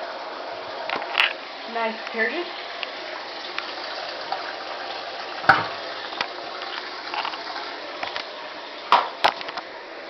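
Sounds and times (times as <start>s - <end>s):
water pouring into washing machine: 0.4s - 9.2s.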